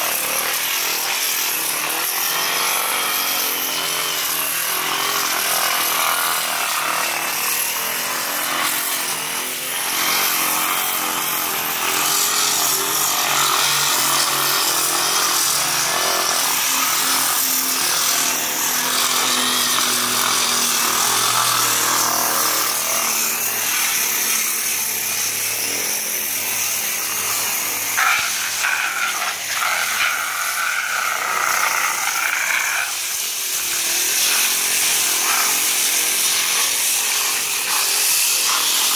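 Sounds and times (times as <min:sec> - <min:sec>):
abrasive rasping on plaster: 0:00.0 - 0:38.9.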